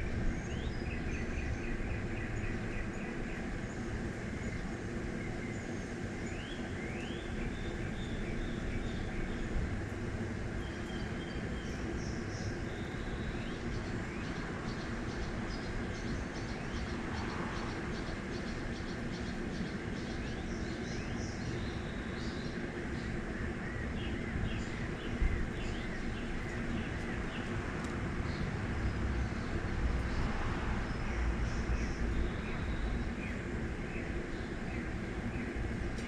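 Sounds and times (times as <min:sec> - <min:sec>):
distant traffic rumble: 0:00.0 - 0:36.0
small birds chirping: 0:00.0 - 0:36.0.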